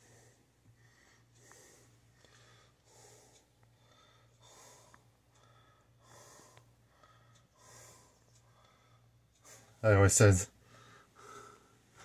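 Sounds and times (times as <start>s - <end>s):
soft breathing: 0.0s - 9.8s, 10.5s - 12.0s
low steady hum: 0.0s - 12.0s.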